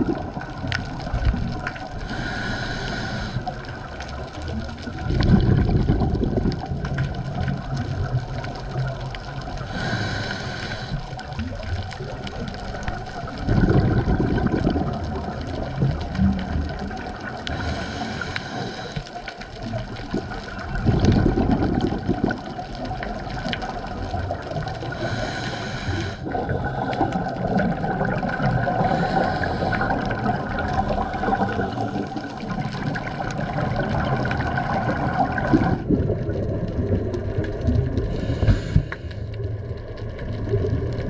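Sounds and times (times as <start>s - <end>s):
diver's breathing bubbles gurgling: 0.0s - 41.0s.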